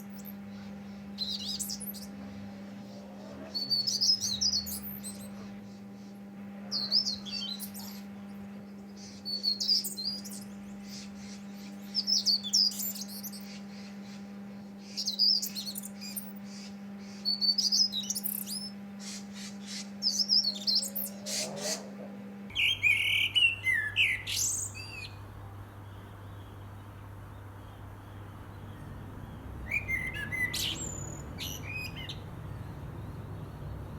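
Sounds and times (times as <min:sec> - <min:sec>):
songbird twittering: 0:00.0 - 0:33.9
steady low hum: 0:00.0 - 0:33.9.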